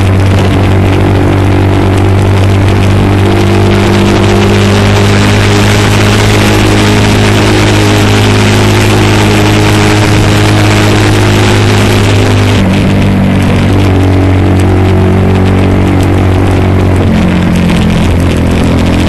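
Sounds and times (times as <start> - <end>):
motorcycle engine running: 0.0 - 19.0
wind and road rush: 0.0 - 19.0.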